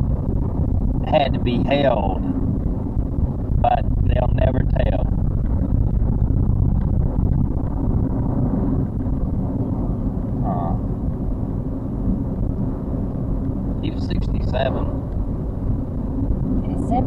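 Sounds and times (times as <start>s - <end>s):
vehicle tyres and engine rumble: 0.0s - 17.0s.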